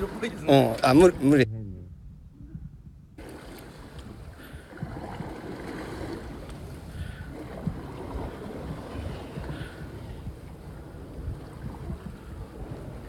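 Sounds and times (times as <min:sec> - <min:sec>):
water slapping against hull: 0:00.0 - 0:01.4, 0:03.2 - 0:13.0
wind buffeting microphone: 0:00.0 - 0:13.0.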